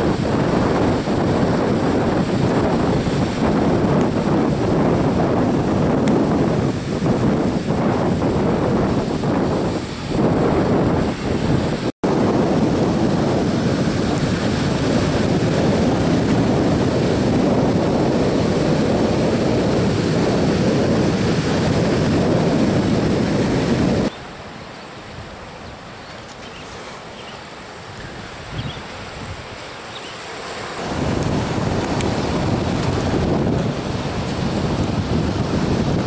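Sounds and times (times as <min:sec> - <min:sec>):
wind buffeting microphone: 0:00.0 - 0:24.2, 0:25.1 - 0:36.0
heavy surf on stony beach: 0:00.0 - 0:36.0.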